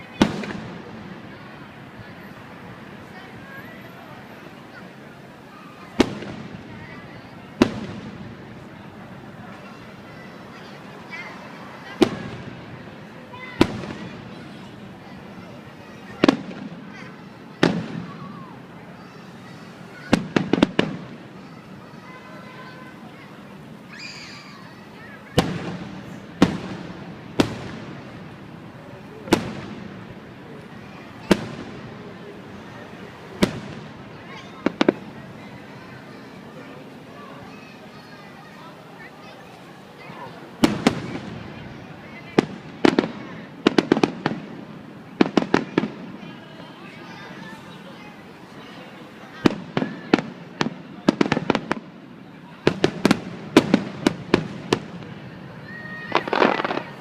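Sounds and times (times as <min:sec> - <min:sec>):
fireworks bursting with echo: 0:00.0 - 0:38.6, 0:39.5 - 0:57.0.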